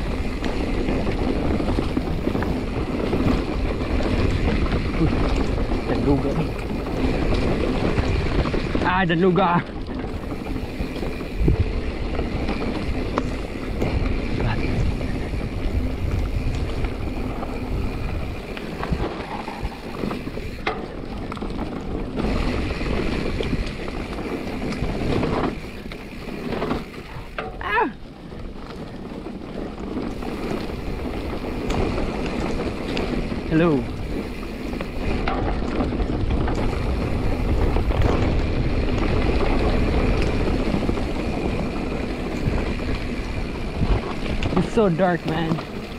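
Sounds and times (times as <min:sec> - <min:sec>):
tyres rumbling on dirt: 0:00.0 - 0:45.9
wind on microphone: 0:00.0 - 0:45.9.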